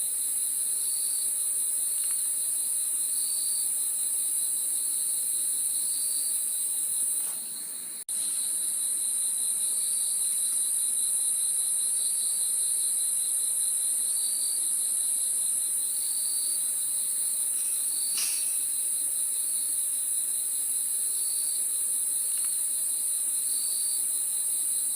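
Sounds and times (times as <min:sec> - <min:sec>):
crickets trilling: 0:00.0 - 0:24.9.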